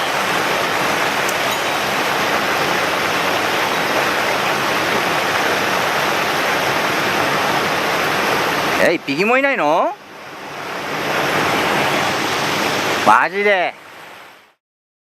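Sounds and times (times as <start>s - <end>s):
stream rushing over rocks: 0.0s - 14.6s.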